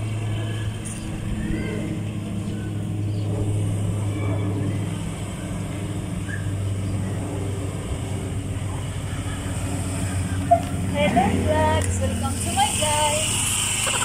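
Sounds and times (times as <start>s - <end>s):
motorcycle engine humming: 0.0s - 14.0s.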